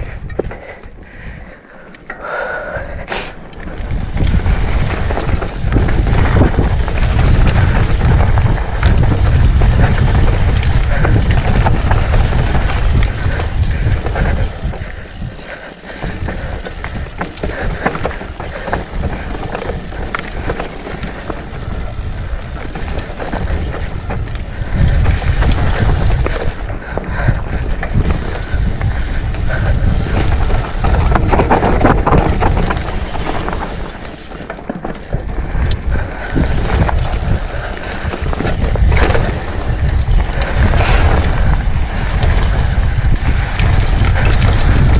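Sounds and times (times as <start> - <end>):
wind buffeting microphone: 0.0 - 1.8, 2.4 - 44.9
bike rattling and clicking: 0.0 - 44.9
tyres rolling on dirt and stones: 2.9 - 44.9.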